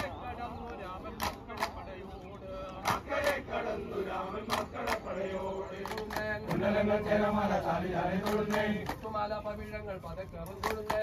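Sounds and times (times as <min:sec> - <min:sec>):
group of voices chanting: 0:00.0 - 0:09.1.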